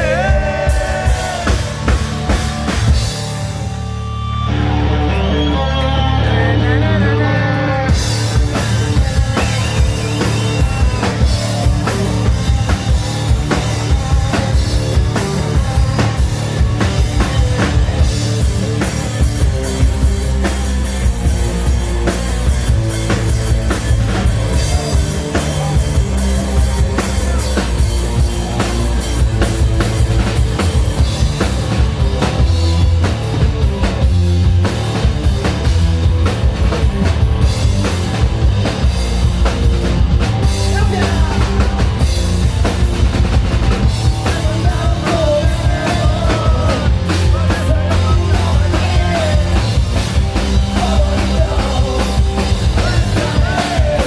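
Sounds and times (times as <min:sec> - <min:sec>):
drum kit: 0:00.0 - 0:54.0
hard rock band playing: 0:00.0 - 0:54.0.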